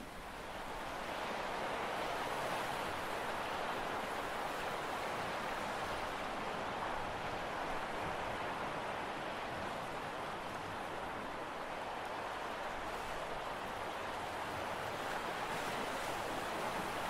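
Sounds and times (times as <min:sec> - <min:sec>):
sea rushing: 0:00.0 - 0:17.0
wind: 0:00.0 - 0:17.0.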